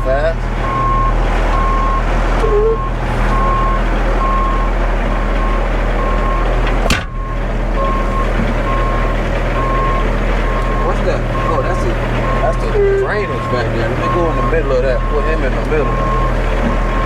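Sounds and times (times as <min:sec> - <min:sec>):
diesel engine hum: 0:00.0 - 0:17.0
backup alarm beeping: 0:00.6 - 0:17.0.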